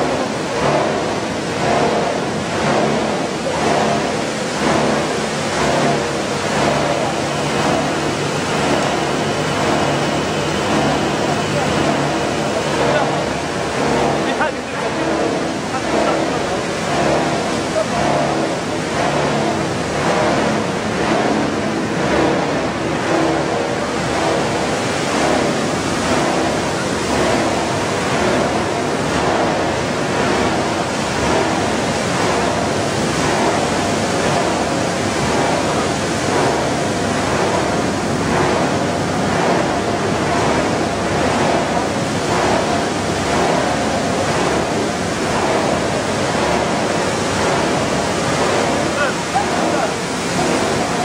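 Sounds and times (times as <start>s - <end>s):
machine noise: 0.0s - 51.0s.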